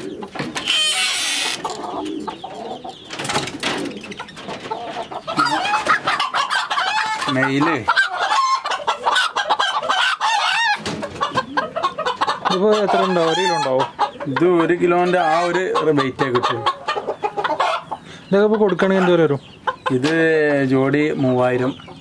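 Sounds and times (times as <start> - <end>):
chickens clucking and squawking: 0.0 - 22.0.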